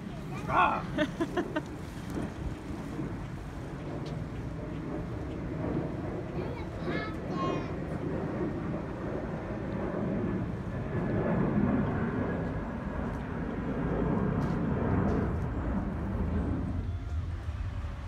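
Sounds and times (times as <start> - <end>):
low rumble of passing cars: 0.0 - 18.0.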